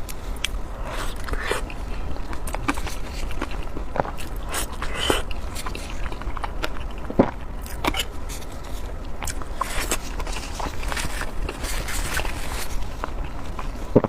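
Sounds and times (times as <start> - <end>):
person chewing and biting: 0.1 - 14.0.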